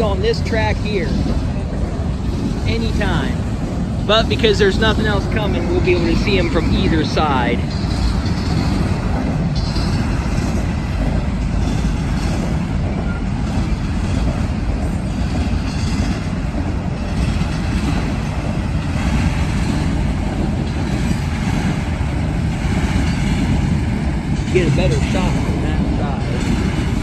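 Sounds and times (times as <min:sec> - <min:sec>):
freight train rumbling on rails: 0:00.0 - 0:27.0.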